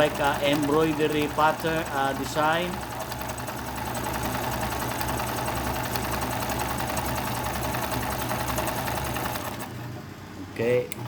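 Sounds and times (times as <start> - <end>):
needle ticking: 0.0 - 9.8
sewing machine motor humming: 0.0 - 11.0.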